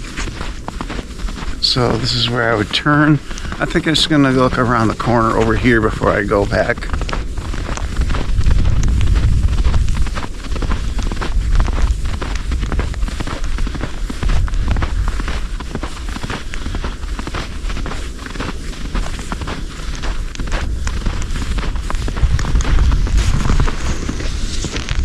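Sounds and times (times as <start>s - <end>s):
footsteps crunching through snow: 0.0s - 25.0s
wind buffeting microphone: 0.0s - 25.0s.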